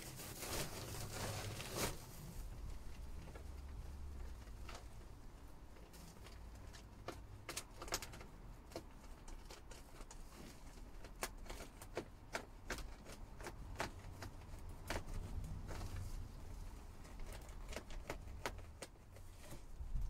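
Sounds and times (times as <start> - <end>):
clicks and taps of insulation: 2.6 - 16.2, 17.0 - 20.0.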